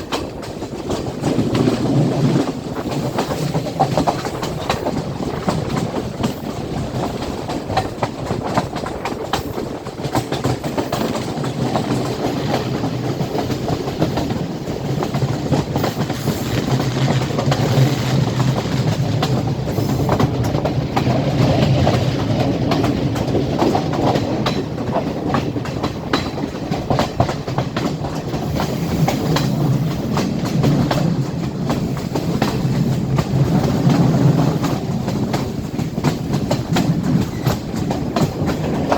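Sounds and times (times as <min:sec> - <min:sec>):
train carriage rumbling: 0:00.0 - 0:38.9
train wheels clattering on rails: 0:00.0 - 0:38.9.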